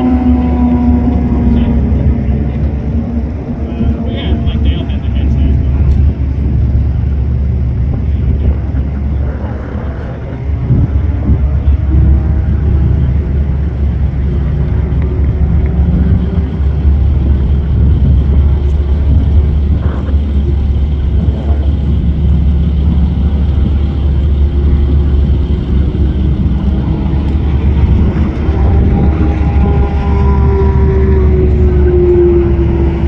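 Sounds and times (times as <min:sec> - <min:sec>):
race car engines passing: 0:00.0 - 0:33.0
steady low rumble: 0:00.0 - 0:33.0.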